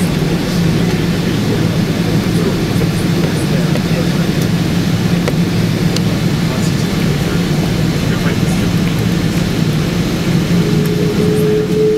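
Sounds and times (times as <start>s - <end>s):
constant cabin rushing noise: 0.0s - 11.9s
low engine hum: 0.0s - 11.9s.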